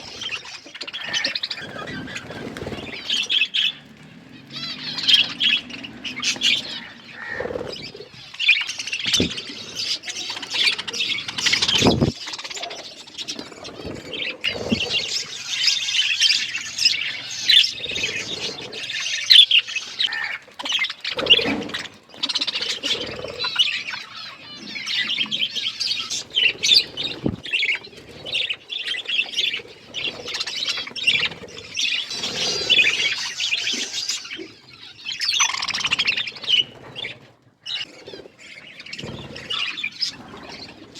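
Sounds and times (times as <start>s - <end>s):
budgerigars chattering: 0.0s - 40.8s.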